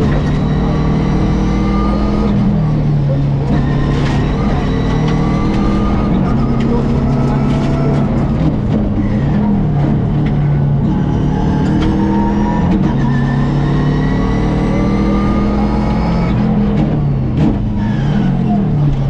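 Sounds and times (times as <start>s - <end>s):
rally car engine accelerating hard: 0.0s - 19.0s.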